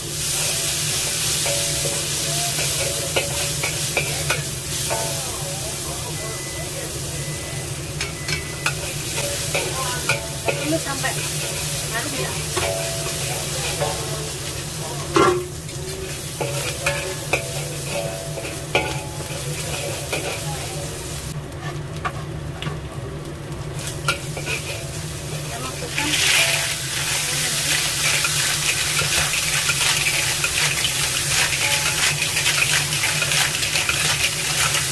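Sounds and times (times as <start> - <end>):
food sizzling in oil: 0.0 - 34.9
metal spatula scraping wok: 0.1 - 5.3, 8.0 - 22.3, 23.8 - 34.9.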